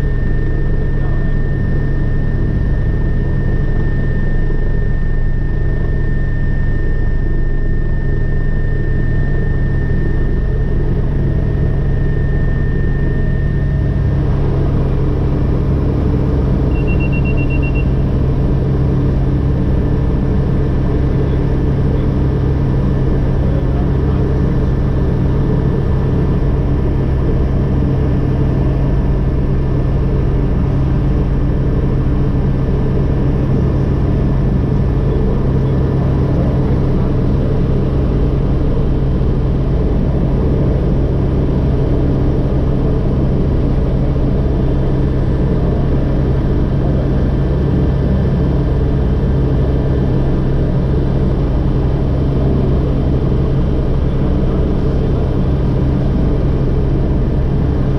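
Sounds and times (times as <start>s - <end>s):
faint whining tones: 0.0s - 56.9s
helicopter engine and rotors: 0.0s - 57.9s.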